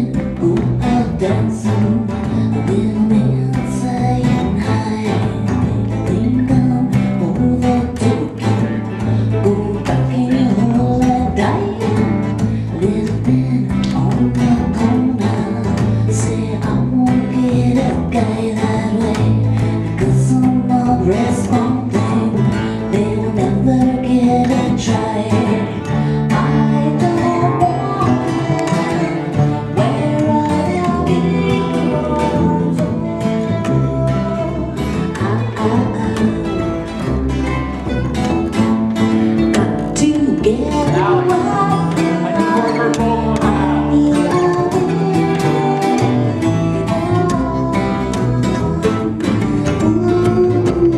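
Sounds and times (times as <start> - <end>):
acoustic band playing: 0.0 - 50.9.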